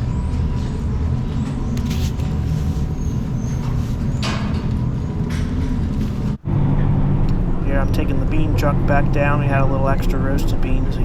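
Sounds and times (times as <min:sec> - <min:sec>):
low motor rumble: 0:00.0 - 0:11.0.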